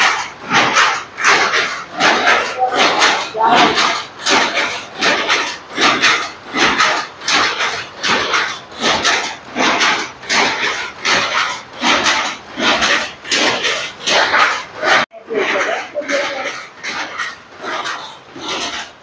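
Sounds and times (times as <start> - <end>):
rasping scraping strokes: 0.0 - 19.0.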